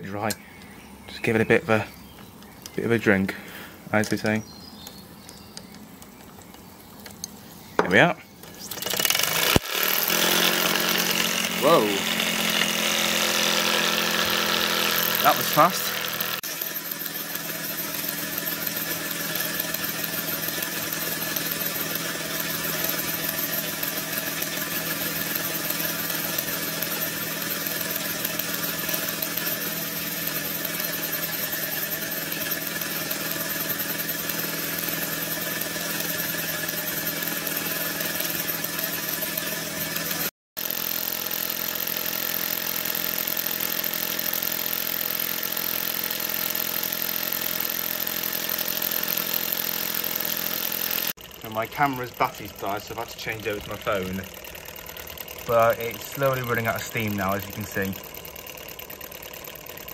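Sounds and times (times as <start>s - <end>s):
toy steam engine running with hiss: 8.6s - 59.9s.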